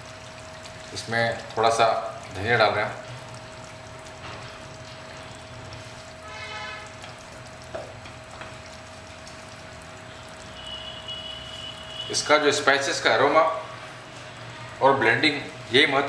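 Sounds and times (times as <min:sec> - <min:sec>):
curry bubbling and hissing: 0:00.0 - 0:16.0.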